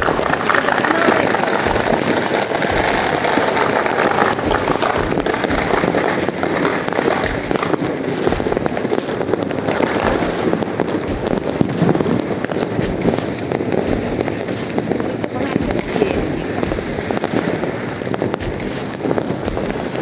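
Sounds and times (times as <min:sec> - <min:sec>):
firecrackers crackling and popping: 0:00.0 - 0:20.0
loud firework bangs: 0:00.0 - 0:20.0.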